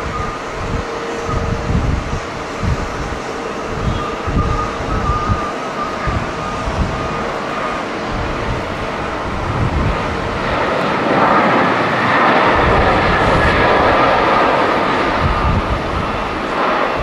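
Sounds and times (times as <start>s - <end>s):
jet engines running: 0.0s - 17.0s
wind rumbling on microphone: 0.0s - 17.0s.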